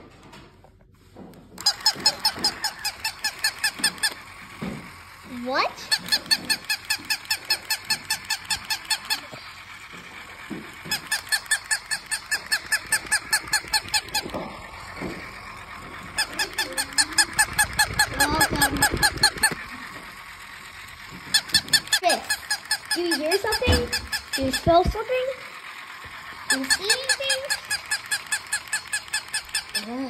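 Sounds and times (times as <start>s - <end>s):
toy puppy electronic yips: 1.6s - 30.0s.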